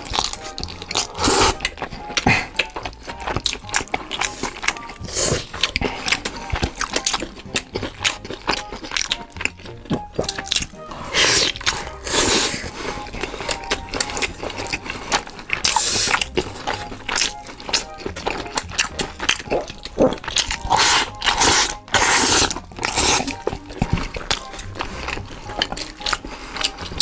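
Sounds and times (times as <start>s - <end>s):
crunchy bites: 0.0s - 27.0s
faint background music: 0.0s - 27.0s
wet chewing and lip-smacking: 0.0s - 27.0s.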